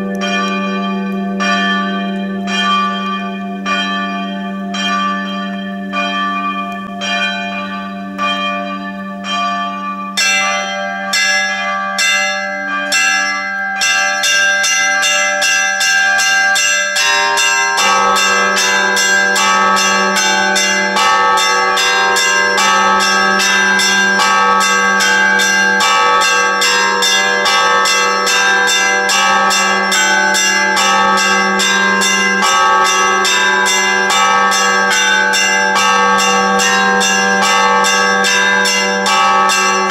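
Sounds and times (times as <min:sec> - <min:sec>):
deep bell hum: 0:00.0 - 0:15.0, 0:15.8 - 0:39.9
church bells ringing: 0:00.0 - 0:39.9.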